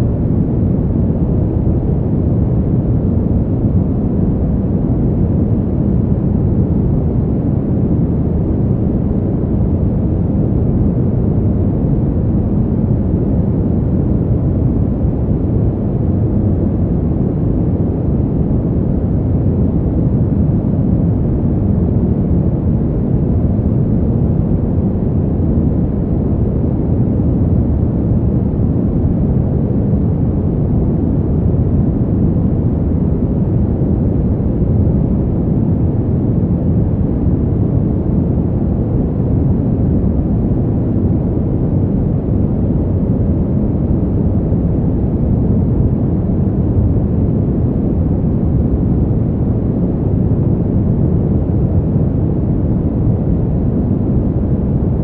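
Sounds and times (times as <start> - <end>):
steady low wind: 0.0 - 55.0.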